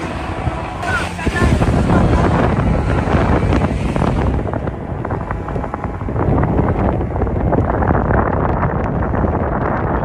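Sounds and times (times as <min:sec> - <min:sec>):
outboard motor running: 0:00.0 - 0:10.0
wind buffeting microphone: 0:00.0 - 0:10.0.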